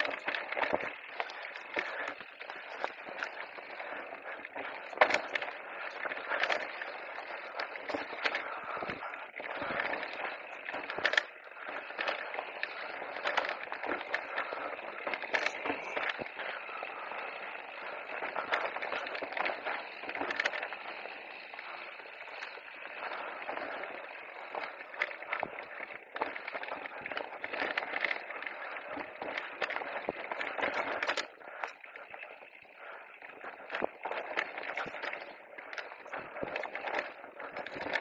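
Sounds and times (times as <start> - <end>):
bike rattling over rocks: 0.0 - 38.0
tyres rolling over gravel: 0.0 - 38.0.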